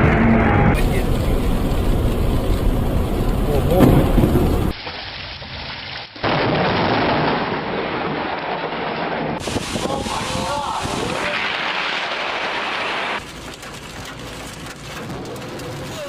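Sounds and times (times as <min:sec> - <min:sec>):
thunder rumbling: 0:00.0 - 0:04.8, 0:06.2 - 0:16.0
rain hissing: 0:00.7 - 0:06.4, 0:07.8 - 0:16.0.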